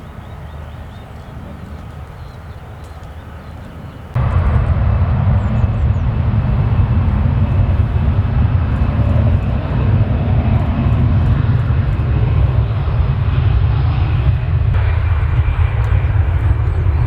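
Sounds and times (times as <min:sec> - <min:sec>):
jet engine roaring: 0:00.0 - 0:17.0.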